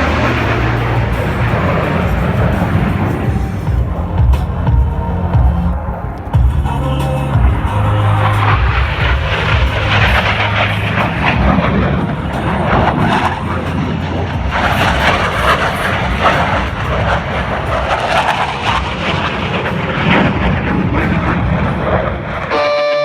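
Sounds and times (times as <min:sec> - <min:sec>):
jet aircraft roaring past: 0:00.0 - 0:23.0.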